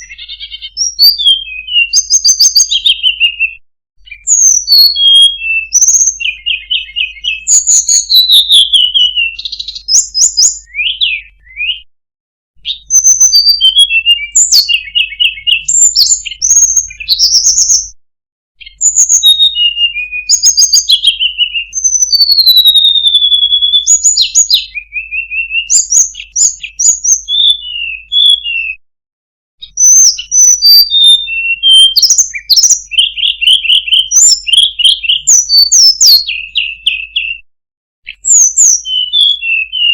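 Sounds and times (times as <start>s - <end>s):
bird singing trills and whistles: 0.0s - 11.9s, 12.6s - 18.0s, 18.6s - 28.8s, 29.6s - 37.4s, 38.0s - 39.9s.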